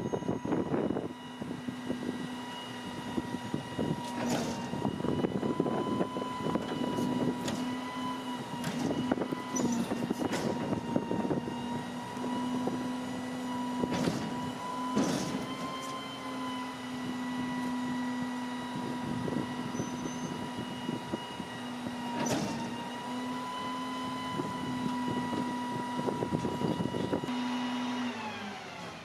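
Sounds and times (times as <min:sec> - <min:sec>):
truck engine rumble: 0:00.0 - 0:28.1
hydraulics whining: 0:00.0 - 0:29.0.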